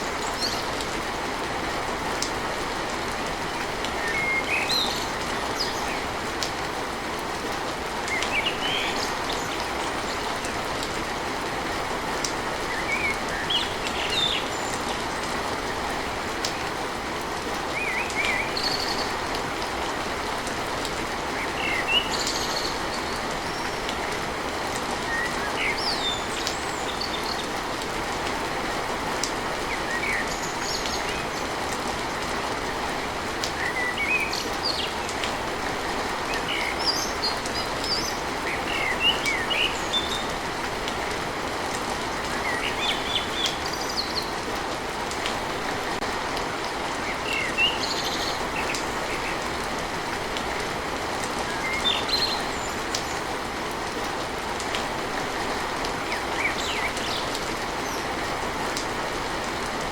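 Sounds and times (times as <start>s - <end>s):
rain pattering on a tin roof: 0.0s - 59.9s.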